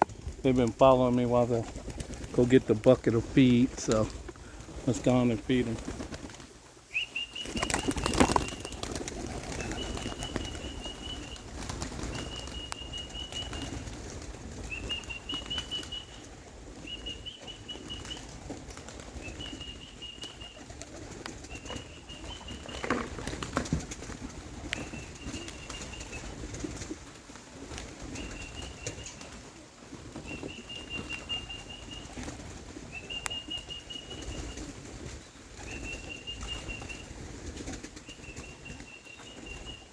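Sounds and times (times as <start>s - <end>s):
pigeons flapping wings: 0.0s - 39.9s.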